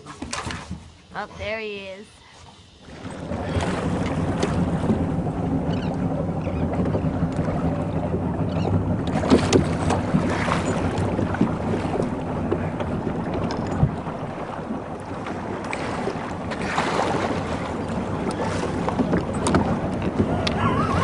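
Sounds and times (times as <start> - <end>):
motorboat engine hum: 0.0 - 21.0
wind noise on microphone: 2.9 - 21.0.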